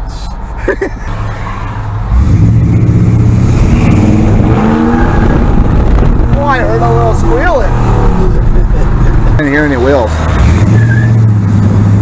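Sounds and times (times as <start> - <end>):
tires squealing: 1.0 - 11.9
car engine revving: 1.8 - 12.0.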